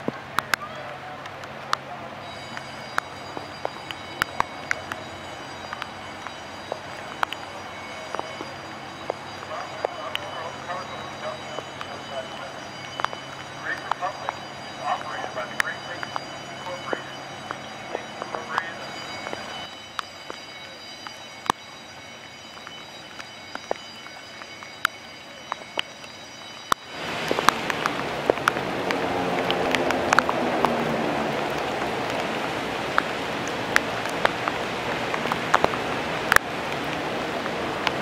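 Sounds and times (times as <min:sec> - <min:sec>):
raindrops ticking near microphone: 0:00.0 - 0:38.0
steady rain falling: 0:00.0 - 0:38.0.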